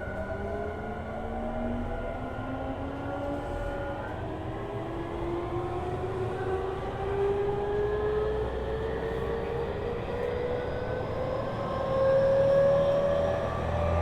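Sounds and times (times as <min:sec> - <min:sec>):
low train running rumble: 0:00.0 - 0:14.0.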